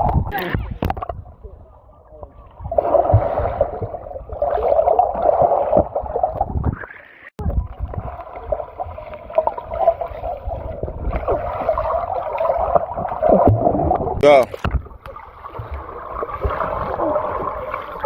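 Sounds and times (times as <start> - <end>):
water sloshing in pool: 2.2 - 18.0.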